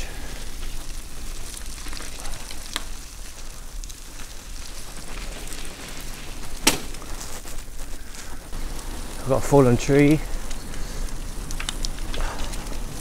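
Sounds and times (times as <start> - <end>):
bicycle tyres on muddy track: 0.0 - 13.0.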